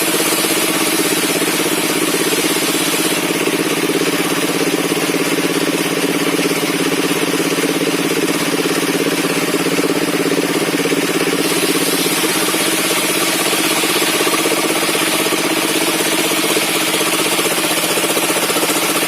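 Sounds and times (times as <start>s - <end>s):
circular sawmill engine running: 0.0s - 19.0s.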